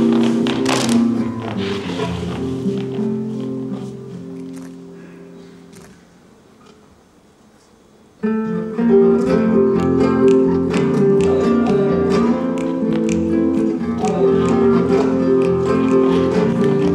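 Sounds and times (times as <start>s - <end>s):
flamenco acoustic guitars: 0.0s - 6.9s, 8.2s - 16.9s.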